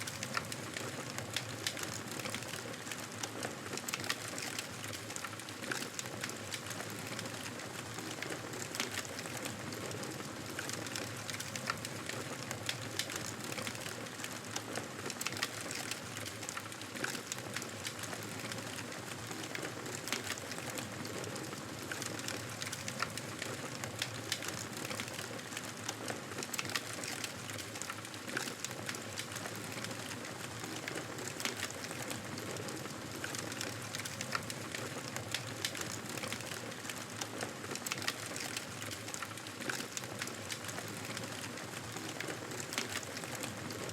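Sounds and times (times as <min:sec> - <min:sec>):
campfire crackling and popping: 0:00.0 - 0:09.5, 0:10.1 - 0:43.6.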